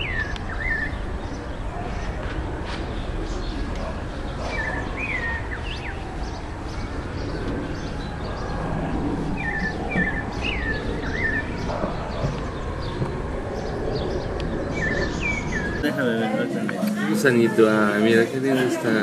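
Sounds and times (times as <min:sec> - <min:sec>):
low outdoor rumble: 0:00.0 - 0:17.1
small birds chirping: 0:00.0 - 0:19.0.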